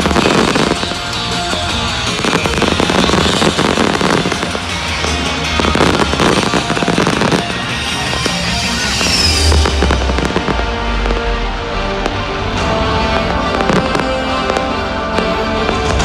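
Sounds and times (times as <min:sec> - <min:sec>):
fireworks exploding: 0:00.0 - 0:16.0
loud show music: 0:00.0 - 0:16.0.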